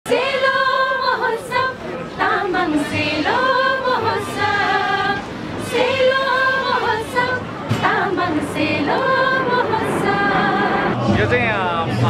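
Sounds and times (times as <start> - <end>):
group of women singing: 0.1 - 11.1.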